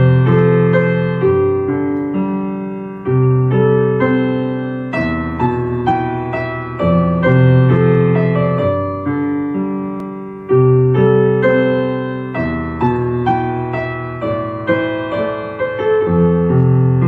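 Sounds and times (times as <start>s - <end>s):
ambient electric piano music: 0.0s - 17.0s.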